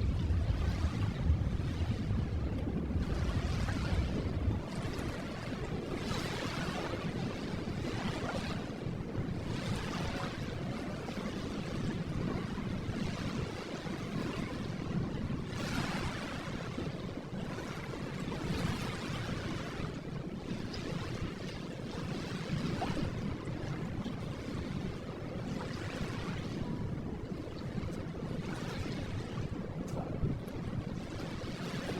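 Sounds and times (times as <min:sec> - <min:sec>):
ocean waves breaking: 0:00.0 - 0:31.9.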